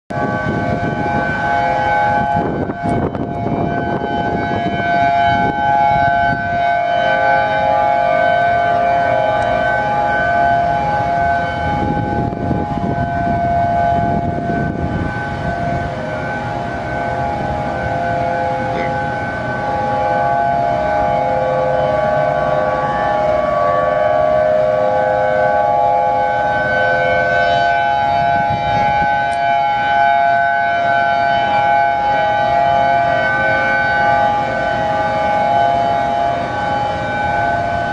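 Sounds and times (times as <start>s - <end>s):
warning sirens: 0.1s - 37.9s.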